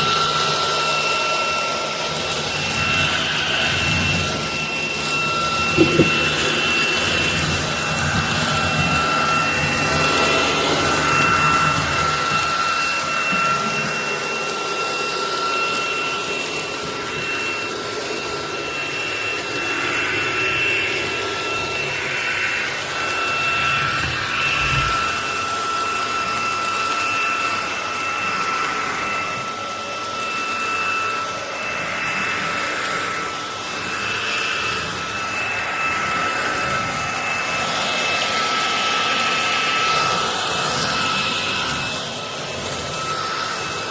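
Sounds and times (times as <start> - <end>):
stick vacuum motor whine: 0.0 - 43.9.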